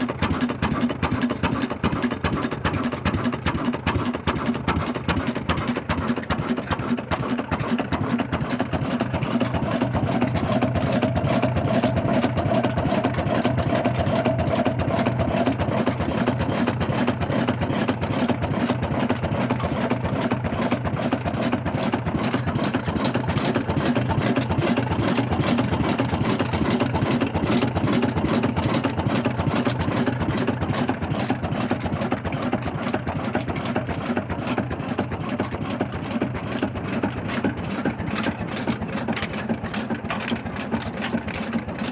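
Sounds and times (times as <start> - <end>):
stationary engine running: 0.0 - 41.9.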